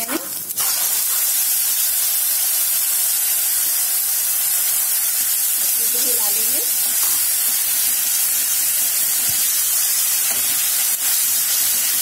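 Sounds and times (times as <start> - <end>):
puree sizzling in hot oil: 0.0 - 12.0.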